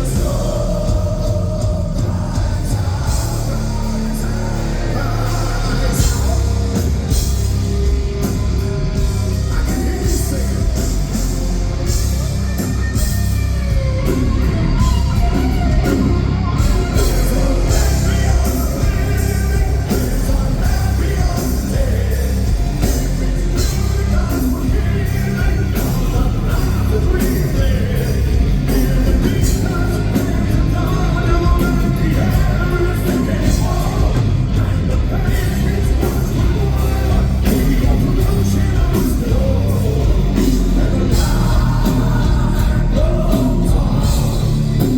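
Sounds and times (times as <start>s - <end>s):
heavy metal band playing live: 0.0s - 44.9s
lead singer singing: 0.0s - 44.9s.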